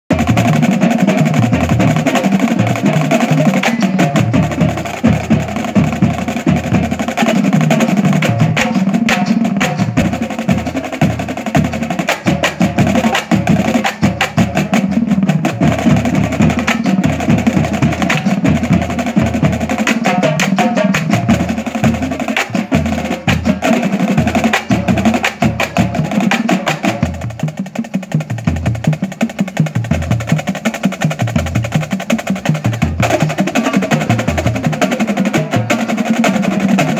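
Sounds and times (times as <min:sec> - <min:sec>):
marching drum line playing: 0:00.1 - 0:36.9.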